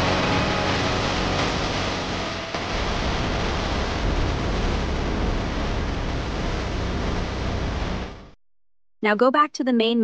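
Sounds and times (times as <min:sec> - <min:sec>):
deep rumble: 0:00.0 - 0:08.4
steady rushing noise: 0:00.0 - 0:08.4.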